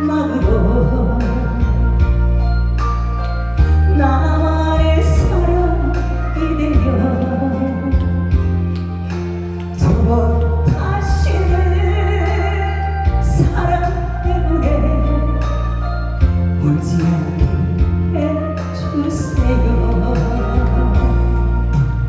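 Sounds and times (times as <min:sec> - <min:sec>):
woman singing with vibrato: 0:00.0 - 0:02.6, 0:03.7 - 0:09.1, 0:09.7 - 0:21.8
steady bass: 0:00.0 - 0:22.0.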